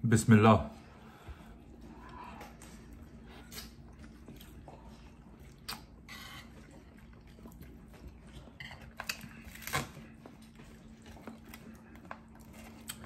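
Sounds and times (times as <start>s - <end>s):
faint steady hum: 0.0s - 13.0s
man chewing food: 0.7s - 13.0s.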